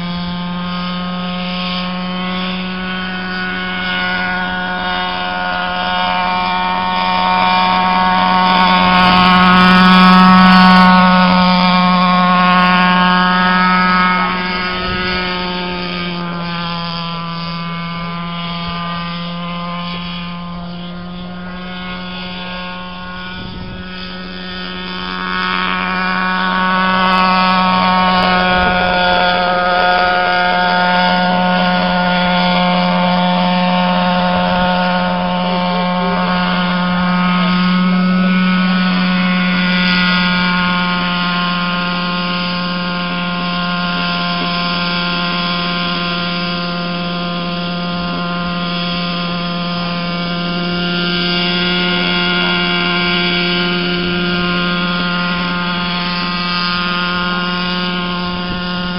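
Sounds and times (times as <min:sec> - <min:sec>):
model helicopter rotor whine: 0:00.0 - 0:58.9.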